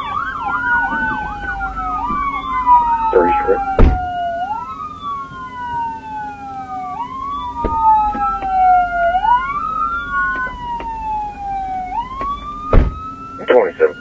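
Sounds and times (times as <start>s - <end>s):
police sirens wailing: 0.0s - 14.0s.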